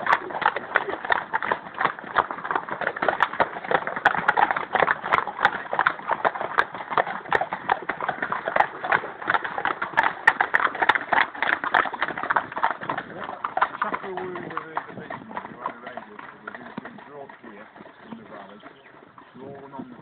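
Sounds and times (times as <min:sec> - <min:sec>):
horse hoofbeats on dirt: 0:00.0 - 0:20.0.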